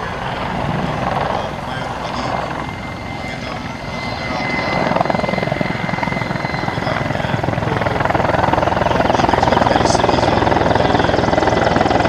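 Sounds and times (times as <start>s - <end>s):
helicopter rotor beating: 0.0s - 12.0s
turbine whine: 0.0s - 12.0s.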